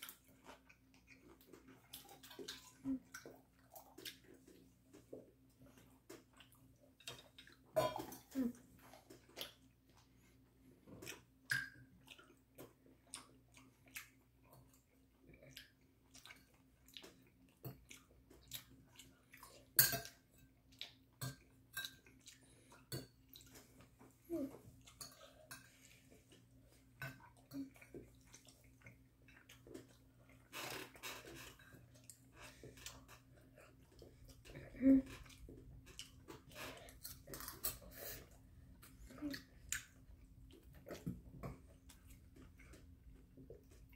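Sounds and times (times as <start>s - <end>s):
soft chewing: 0.0s - 43.9s.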